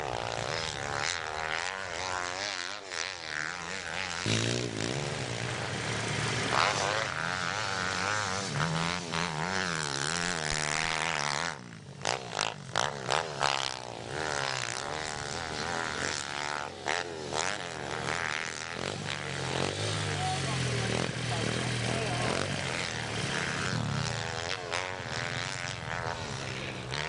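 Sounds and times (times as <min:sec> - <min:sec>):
pit bike engines revving: 0:00.0 - 0:27.0.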